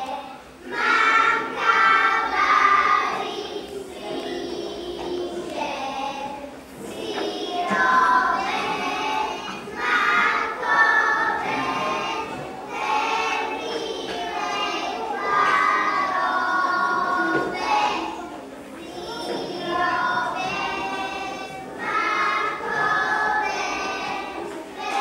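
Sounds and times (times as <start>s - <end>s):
children singing in chorus: 0.0s - 25.0s.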